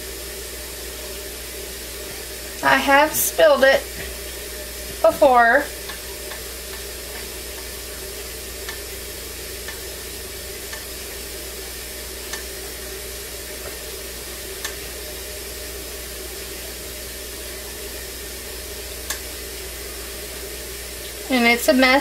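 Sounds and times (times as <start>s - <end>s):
low hum: 0.0s - 21.3s.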